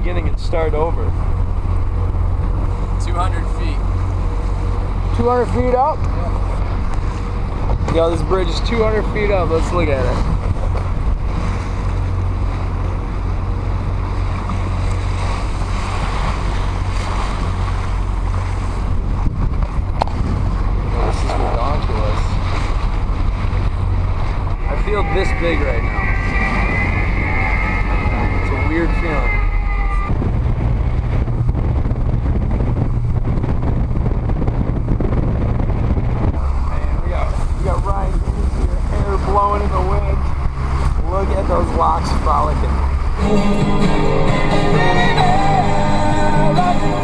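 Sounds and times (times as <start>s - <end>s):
boat engine drone: 0.0s - 47.0s
water noise from hull: 0.0s - 47.0s
wind on microphone: 0.0s - 47.0s.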